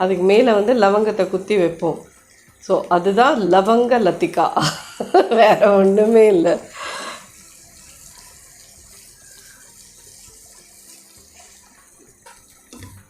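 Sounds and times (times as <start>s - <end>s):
syrup simmering hiss: 0.0s - 13.0s.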